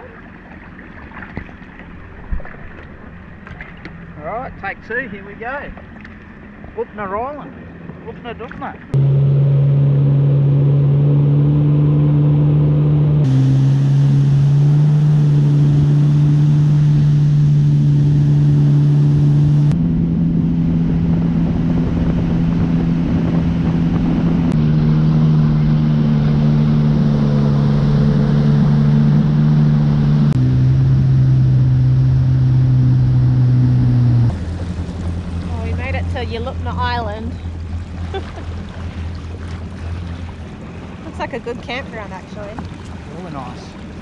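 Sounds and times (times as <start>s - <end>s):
jet ski engine running: 0.0s - 44.0s
rushing wind and water: 0.0s - 44.0s.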